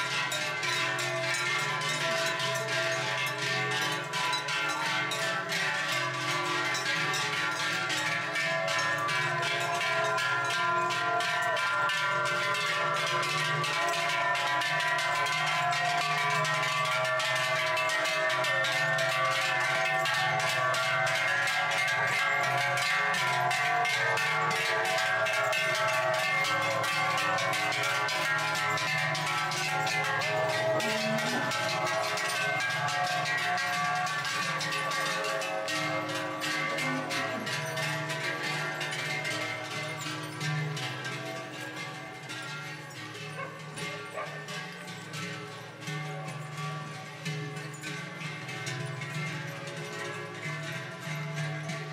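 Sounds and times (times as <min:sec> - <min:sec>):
cowbells clanging: 0:00.0 - 0:51.9.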